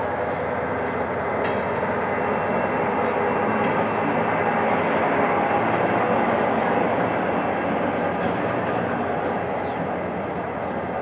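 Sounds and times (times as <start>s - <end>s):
diesel locomotive engine under load: 0.0s - 11.0s
train coaches rolling on rails: 0.0s - 11.0s.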